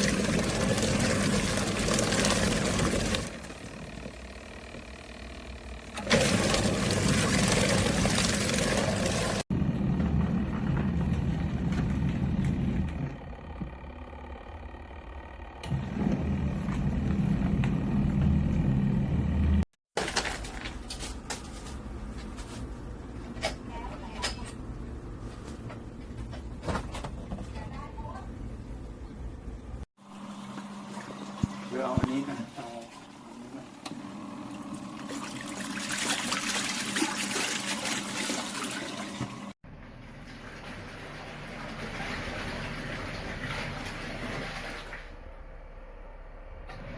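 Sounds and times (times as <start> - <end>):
washing machine motor humming: 0.0 - 19.7, 21.9 - 46.9.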